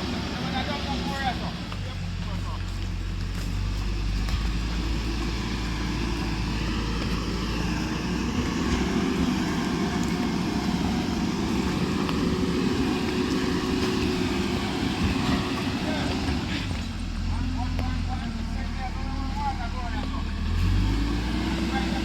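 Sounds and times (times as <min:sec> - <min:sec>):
construction machinery engine: 0:00.0 - 0:22.0.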